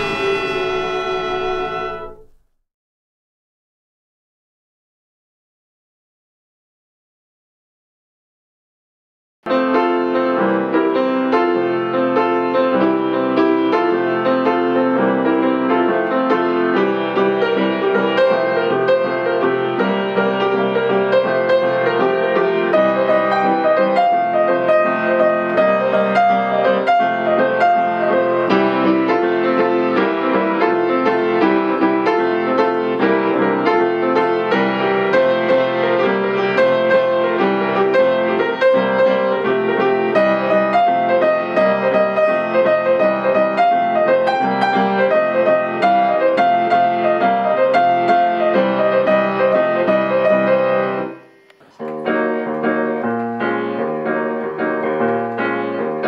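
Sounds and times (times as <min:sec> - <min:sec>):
piano playing: 0:00.0 - 0:02.6, 0:09.5 - 0:56.0.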